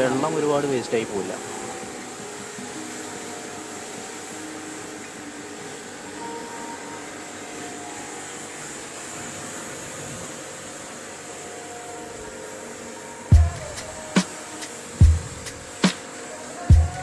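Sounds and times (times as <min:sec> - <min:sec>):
nozzle spraying water hiss: 0:00.0 - 0:17.0.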